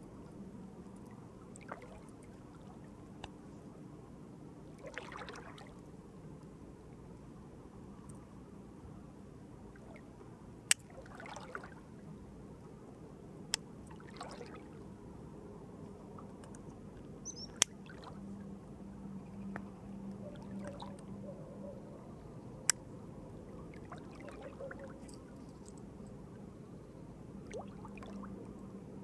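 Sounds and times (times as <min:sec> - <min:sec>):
faint background noise: 0:00.0 - 0:29.0.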